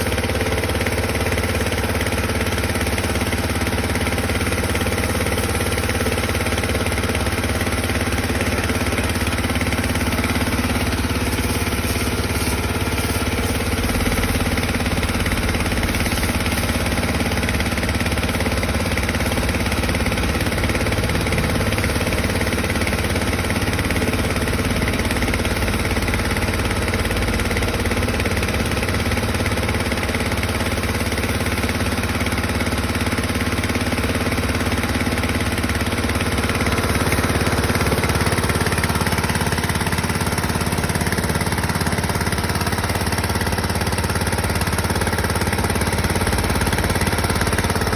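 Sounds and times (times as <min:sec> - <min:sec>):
pressure washer running: 0:00.0 - 0:47.9.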